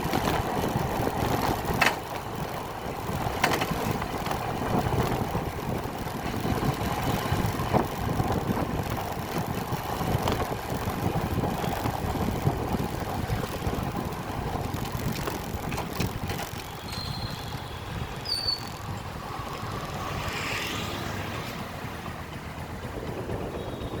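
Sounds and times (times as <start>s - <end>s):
road and wind rumble: 0.0s - 24.0s.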